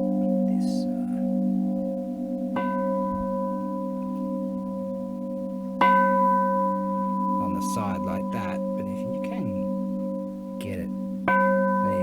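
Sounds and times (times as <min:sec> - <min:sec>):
temple bell ringing: 0:00.0 - 0:12.0.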